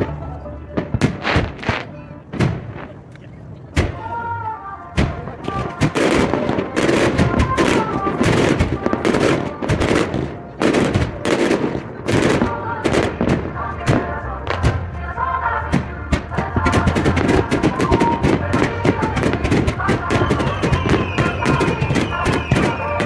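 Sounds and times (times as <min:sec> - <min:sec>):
sped-up music: 0:00.0 - 0:03.1, 0:03.8 - 0:23.0.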